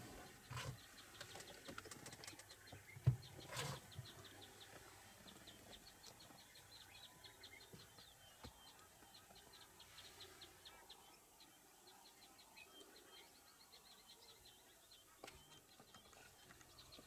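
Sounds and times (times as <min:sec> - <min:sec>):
small bird chirping: 0:00.2 - 0:17.0.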